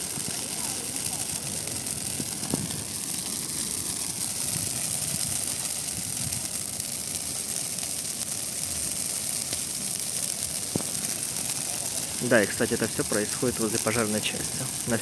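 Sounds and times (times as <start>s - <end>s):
bonfire rushing hiss: 0.0s - 15.0s
fire snapping: 0.0s - 15.0s.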